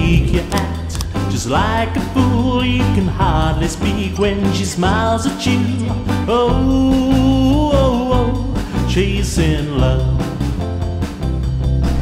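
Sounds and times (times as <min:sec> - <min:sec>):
pop song with singing: 0:00.0 - 0:10.7.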